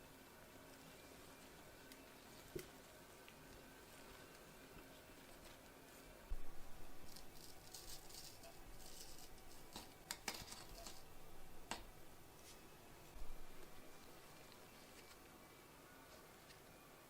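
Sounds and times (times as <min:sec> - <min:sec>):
rustling and handling noises: 0:00.2 - 0:16.9.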